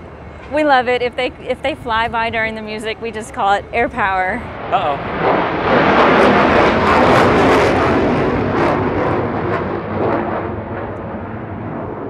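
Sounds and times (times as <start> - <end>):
fighter jet flying past: 0.0 - 12.0.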